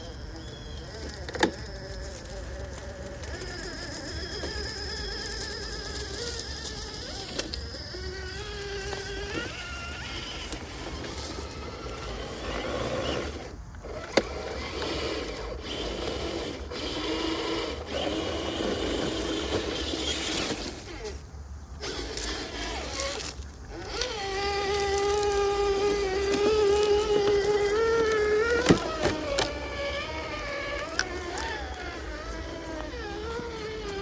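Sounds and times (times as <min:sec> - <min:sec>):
electric motor and gears whining: 0:00.0 - 0:34.0.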